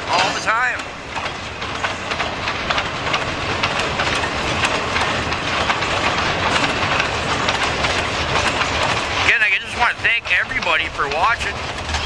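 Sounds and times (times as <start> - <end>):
train wheels on rails: 0.0 - 12.0
wheels clanking over rail joints: 0.0 - 12.0.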